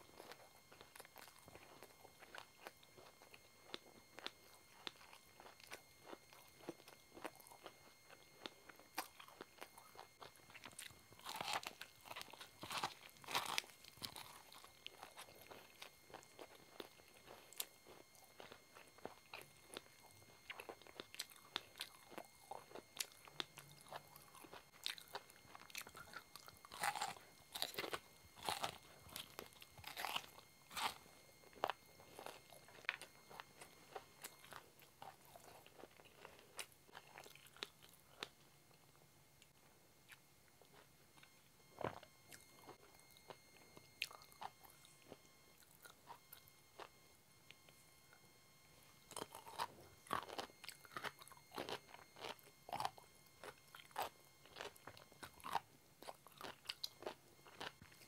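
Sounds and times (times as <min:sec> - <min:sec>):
crunching corn on the cob: 0:00.1 - 0:38.3, 0:49.1 - 0:58.0.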